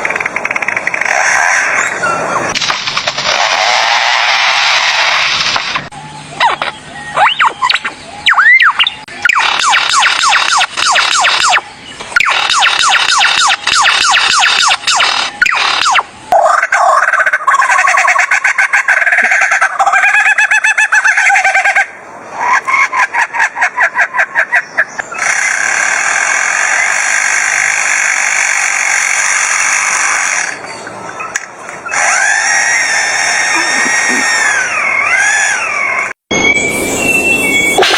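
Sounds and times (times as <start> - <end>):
bird calls in fast runs: 0.0 - 36.1.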